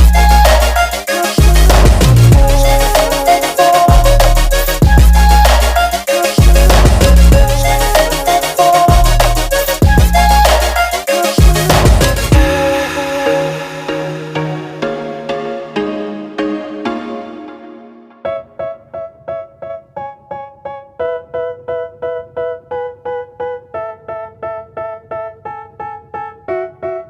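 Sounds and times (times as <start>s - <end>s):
electronic instrumental music: 0.0s - 27.0s.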